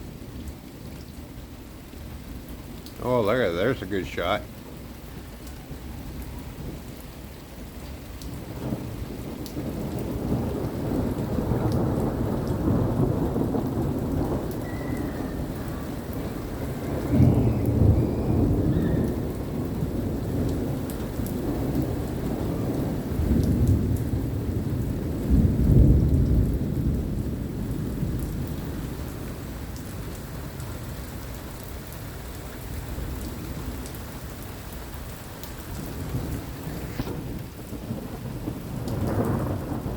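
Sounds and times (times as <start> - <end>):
rain falling on surfaces: 0.0 - 39.9
thunder rumbling: 3.0 - 31.3, 35.6 - 39.9.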